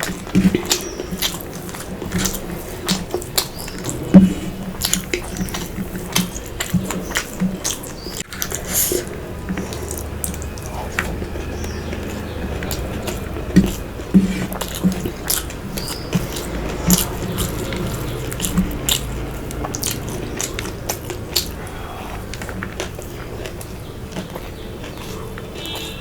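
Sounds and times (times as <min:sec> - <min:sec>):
person chewing and biting: 0:00.0 - 0:26.0.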